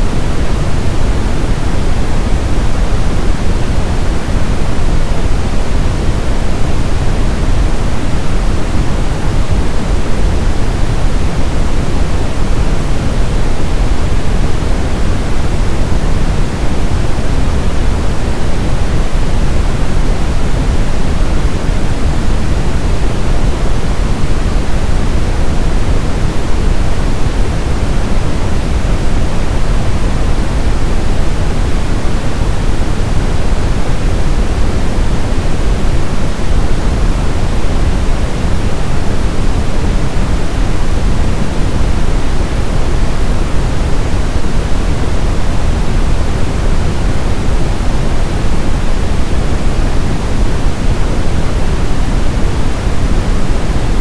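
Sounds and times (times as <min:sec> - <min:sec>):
steady brown noise: 0:00.0 - 0:54.0.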